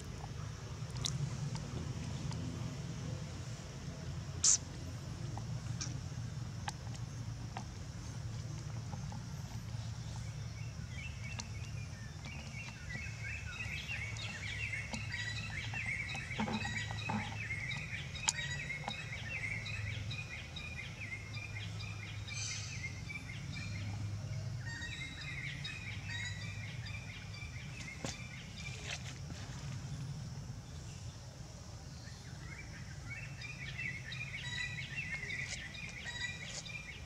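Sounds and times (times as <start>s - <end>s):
small birds chirping: 0.0s - 37.0s
steady low hum: 0.0s - 37.0s.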